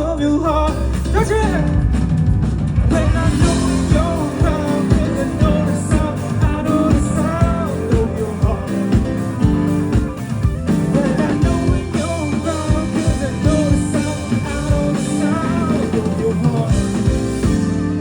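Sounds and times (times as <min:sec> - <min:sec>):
electric guitar: 0:00.0 - 0:18.0
keyboard: 0:00.0 - 0:18.0
drum kit beat: 0:00.5 - 0:18.0.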